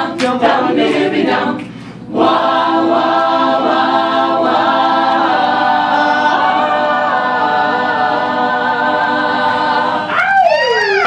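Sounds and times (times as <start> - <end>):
choir singing a cappella: 0.0 - 10.2.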